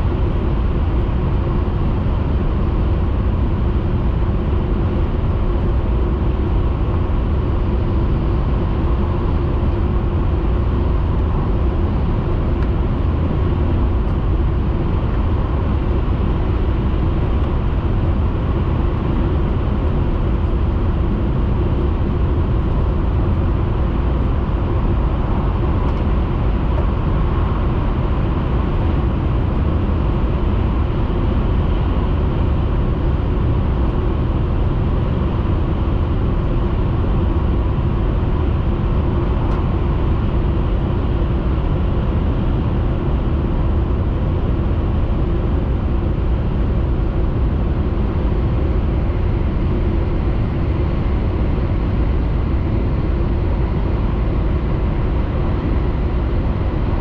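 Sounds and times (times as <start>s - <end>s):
train cabin rumble and hum: 0.0s - 57.0s.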